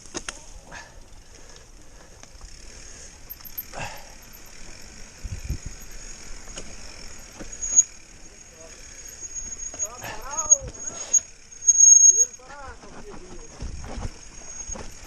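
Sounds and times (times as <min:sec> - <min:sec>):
mountain bike rolling on trail: 0:00.0 - 0:15.0
rattling clicks from bike: 0:00.0 - 0:15.0.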